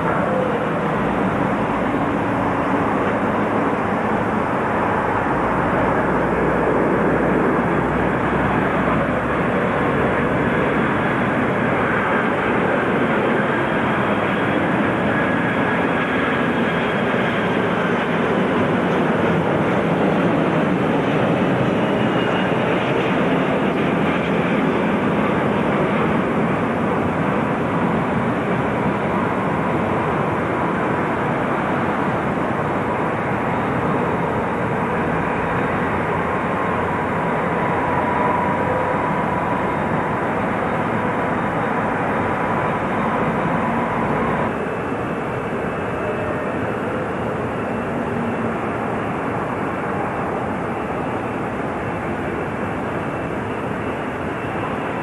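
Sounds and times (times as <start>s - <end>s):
faint high whine: 0.0s - 55.0s
jet engines running: 0.0s - 55.0s.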